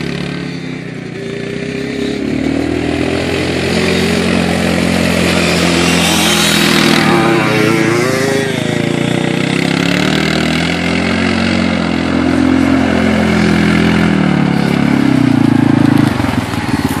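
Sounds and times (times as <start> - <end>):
utility vehicle engine revving: 0.0 - 17.0.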